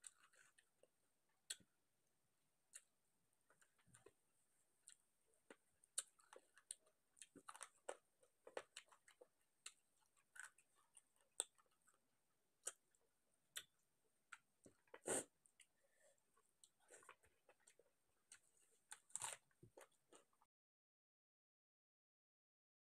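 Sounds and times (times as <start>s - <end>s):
faint chewing and mouth clicks: 0.0s - 1.7s, 2.7s - 20.5s.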